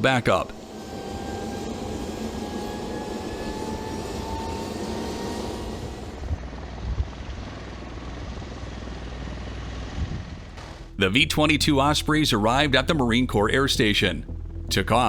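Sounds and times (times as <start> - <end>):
aircraft rotor noise: 0.0 - 12.7
turbine whine: 0.0 - 15.0.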